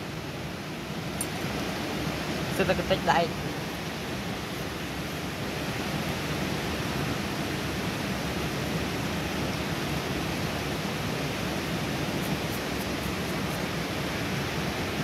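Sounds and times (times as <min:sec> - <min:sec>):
turbulent flowing water: 0:00.0 - 0:15.0.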